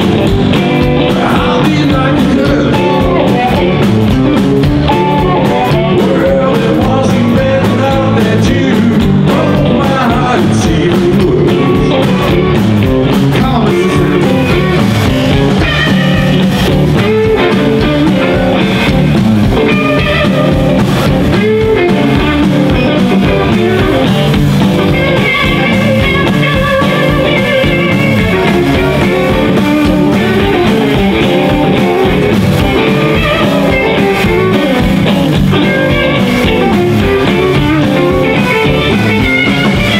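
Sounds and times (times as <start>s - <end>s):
drums: 0.0s - 39.9s
electric guitars: 0.0s - 39.9s
upright double bass: 0.0s - 39.9s.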